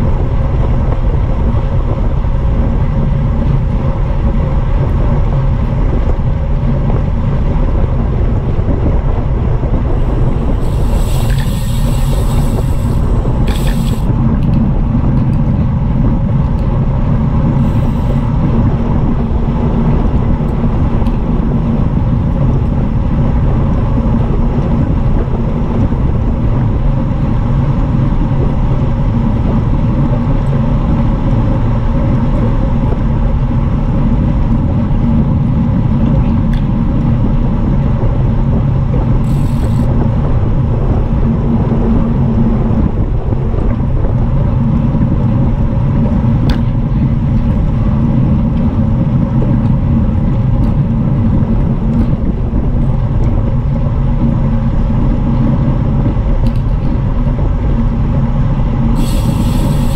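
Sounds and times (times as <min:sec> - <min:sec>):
wind and tyre noise: 0:00.0 - 0:59.9.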